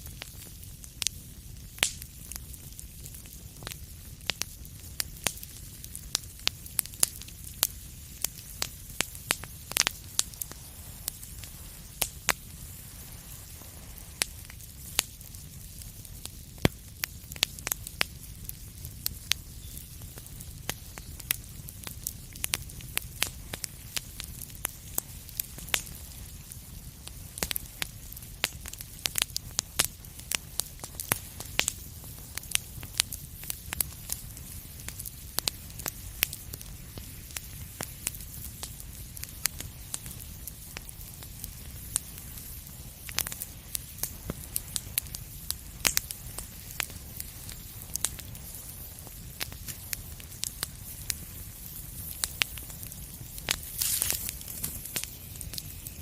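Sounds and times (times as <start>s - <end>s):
flames rumbling and hissing: 0.0s - 56.0s
wood fire crackling and popping: 0.0s - 56.0s.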